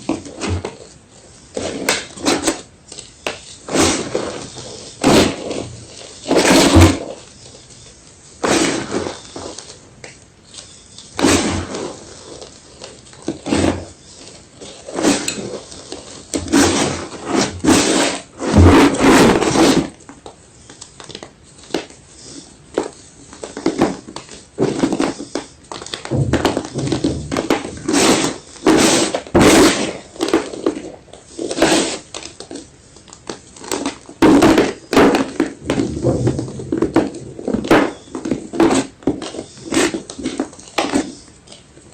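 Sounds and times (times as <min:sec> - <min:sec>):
gym chalk crunching: 0:00.0 - 0:41.9.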